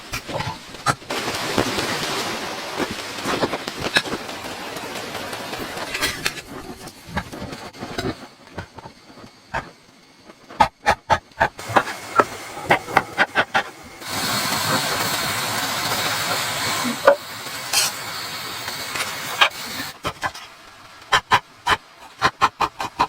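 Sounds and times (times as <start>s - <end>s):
loud steady hiss: 0.0s - 23.0s.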